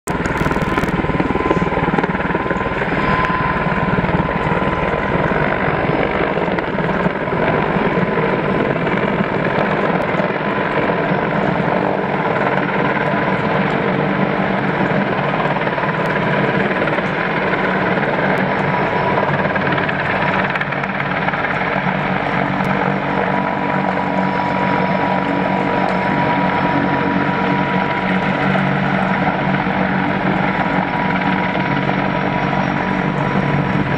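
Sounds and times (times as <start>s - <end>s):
helicopter engine and rotor: 0.0s - 33.9s
thin steady whine: 0.1s - 33.9s.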